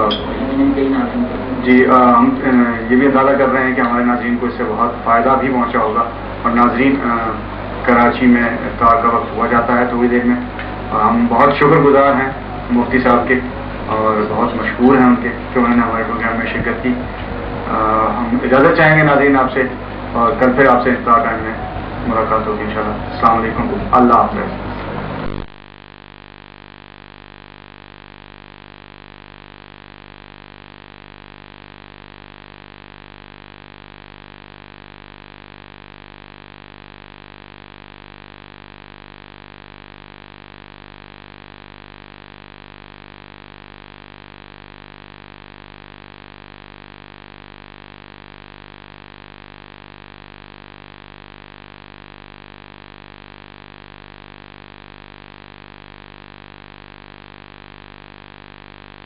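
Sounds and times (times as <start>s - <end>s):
electrical hum with hiss: 0.0s - 59.0s.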